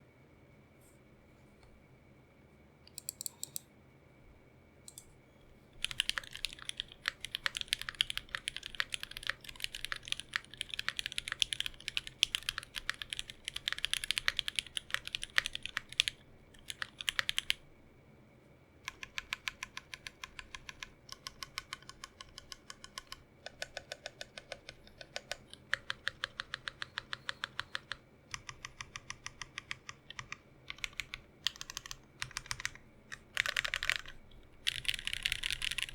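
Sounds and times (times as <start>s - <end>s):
typing on mechanical keyboard: 5.8s - 17.6s, 18.9s - 35.9s.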